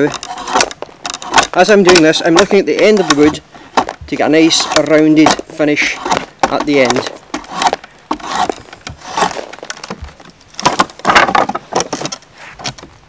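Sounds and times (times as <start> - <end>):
draw knife shaving wood: 0.0 - 12.9.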